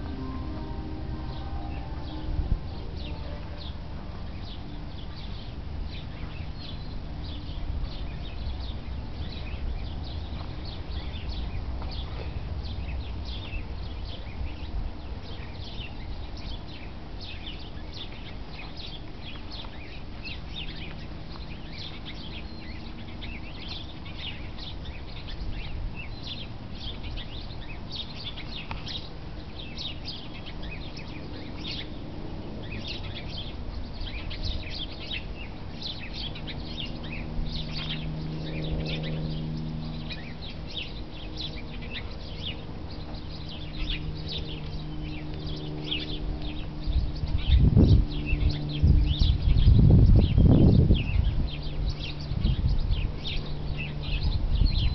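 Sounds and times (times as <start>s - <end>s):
low steady hum: 0.0s - 54.9s
small birds chirping and twittering: 0.0s - 54.9s.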